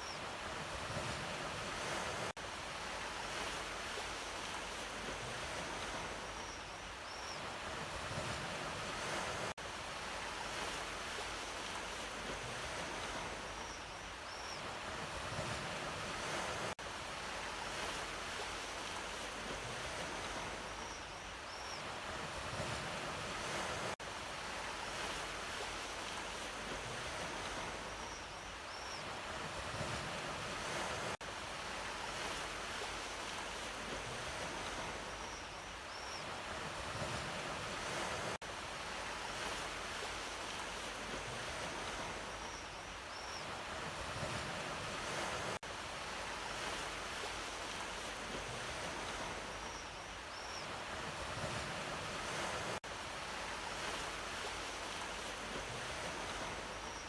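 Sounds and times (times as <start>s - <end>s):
sea waves washing on shore: 0.0s - 6.6s, 7.4s - 13.8s, 14.6s - 57.0s.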